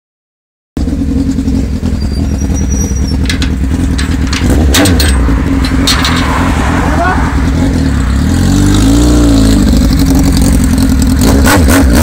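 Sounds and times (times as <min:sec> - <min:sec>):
loud motorcycle engine running: 0:00.8 - 0:12.0.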